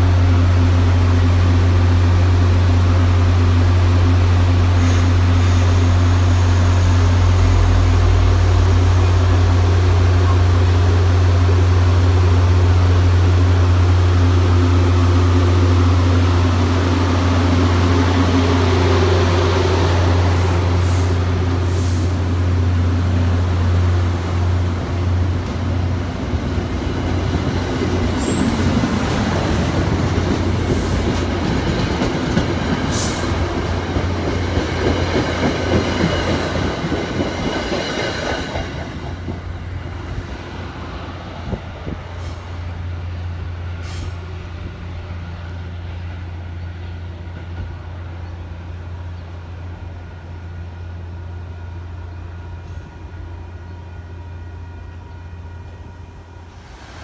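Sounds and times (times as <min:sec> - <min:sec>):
diesel locomotive drone: 0:00.0 - 0:57.0
train wheels rumbling on rails: 0:00.0 - 0:57.0.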